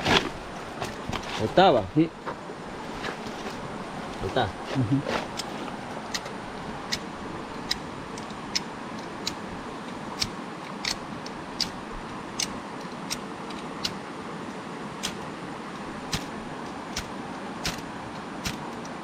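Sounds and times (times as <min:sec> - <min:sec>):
river rushing: 0:03.5 - 0:19.0.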